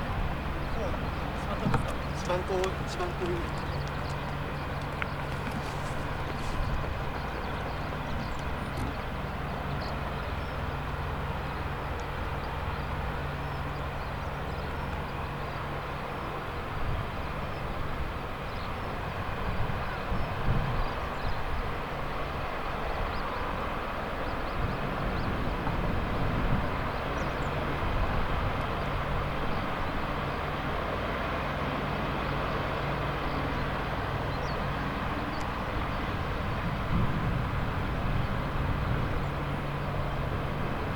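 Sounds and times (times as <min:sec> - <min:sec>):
helicopter engines and rotors droning: 0:00.0 - 0:40.9.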